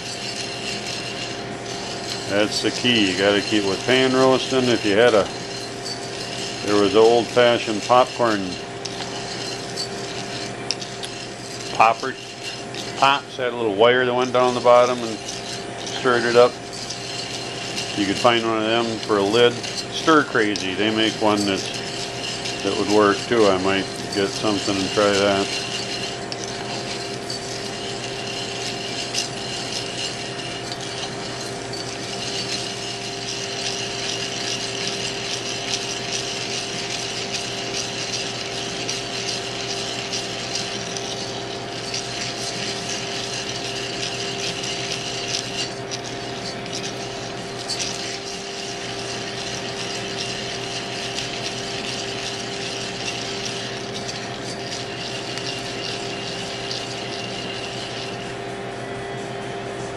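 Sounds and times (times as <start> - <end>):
beans scraping in iron pan: 0.0 - 58.6
steady hum: 0.0 - 59.9.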